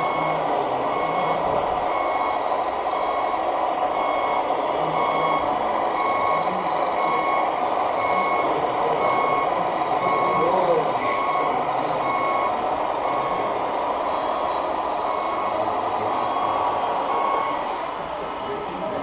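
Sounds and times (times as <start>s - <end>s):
truck reversing beeper: 0.0s - 19.0s.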